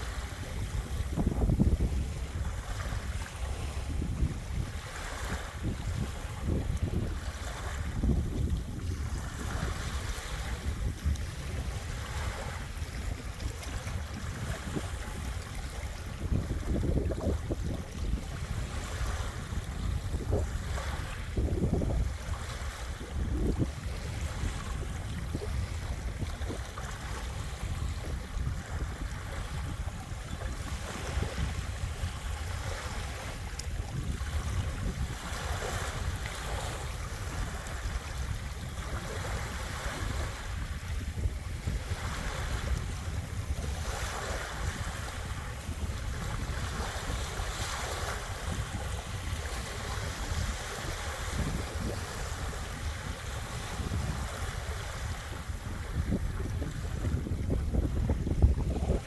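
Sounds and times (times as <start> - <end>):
waves washing onto beach: 0.0 - 59.0
wind rumbling on microphone: 0.0 - 59.0.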